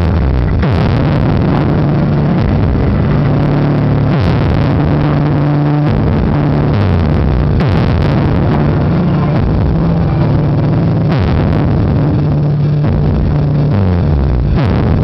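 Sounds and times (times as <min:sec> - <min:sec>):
bass-heavy music from car stereo: 0:00.0 - 0:15.0.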